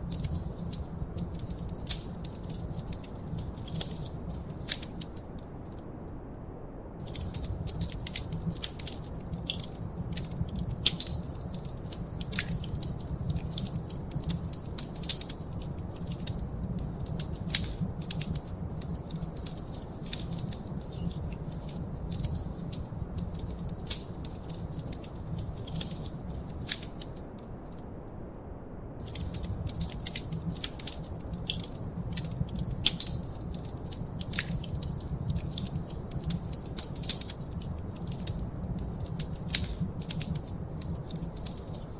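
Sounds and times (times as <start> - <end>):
fire crackling and popping: 0.0 - 6.2, 7.0 - 28.2, 29.0 - 41.9.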